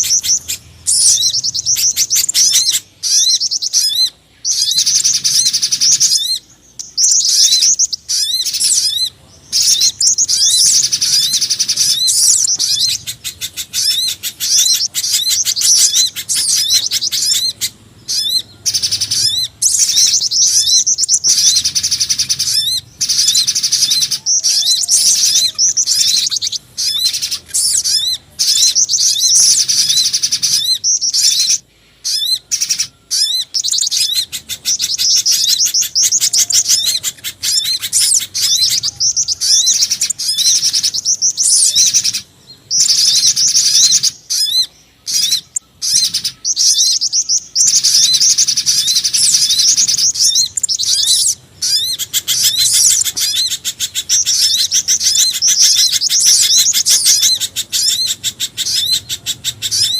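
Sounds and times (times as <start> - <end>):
songbirds chirping rapidly: 0.0 - 59.9.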